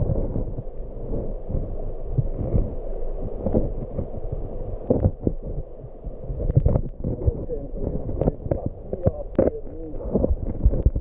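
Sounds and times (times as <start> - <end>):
muffled underwater rumbling: 0.0 - 11.0.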